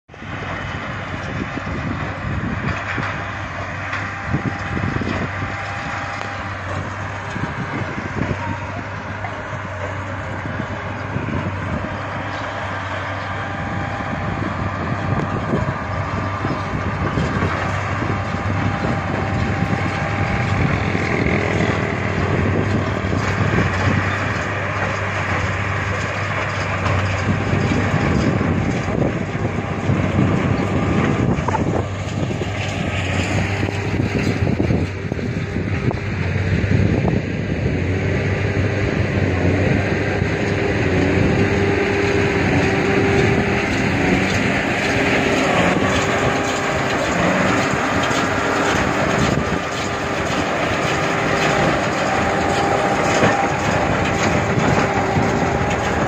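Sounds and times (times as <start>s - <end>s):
baler machinery working: 0.1s - 56.0s
diesel tractor engine running: 0.1s - 56.0s.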